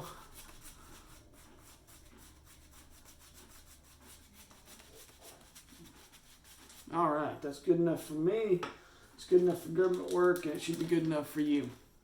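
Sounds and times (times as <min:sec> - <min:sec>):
shaving brush scrubbing lather: 0:00.0 - 0:08.3, 0:09.2 - 0:11.4.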